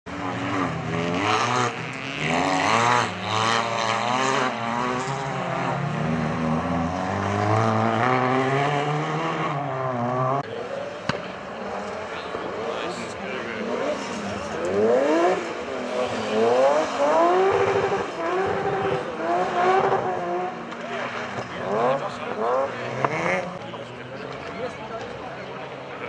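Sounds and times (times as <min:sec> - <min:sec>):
rally car engines revving: 0:00.1 - 0:26.0.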